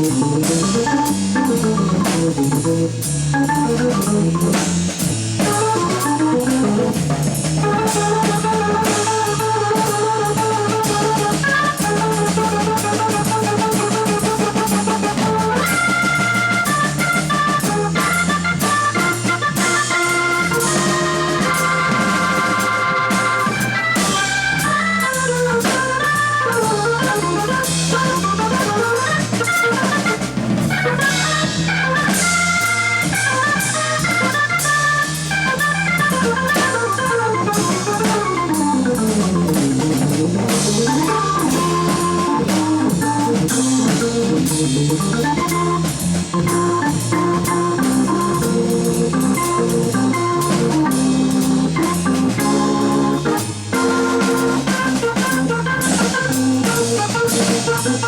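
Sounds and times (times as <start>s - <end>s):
drum kit: 0.0s - 58.0s
organ playing fast runs: 0.0s - 58.0s.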